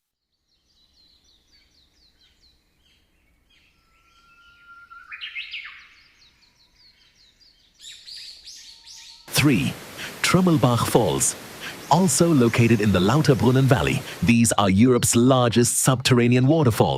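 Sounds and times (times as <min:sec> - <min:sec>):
small birds chirping: 0:00.3 - 0:15.6.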